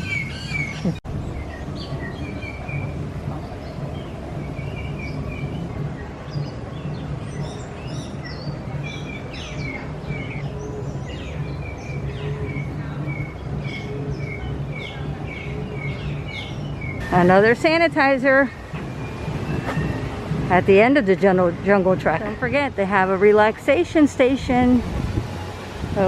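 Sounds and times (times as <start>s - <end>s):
birds chirping and calling: 0.0s - 24.6s.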